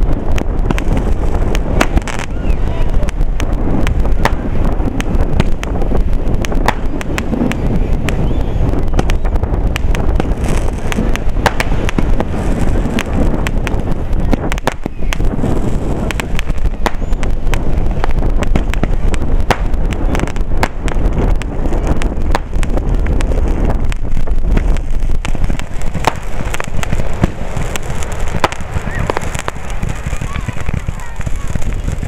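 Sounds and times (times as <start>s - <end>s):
fireworks cracking and popping: 0.0s - 32.0s
low rumble: 0.0s - 32.0s.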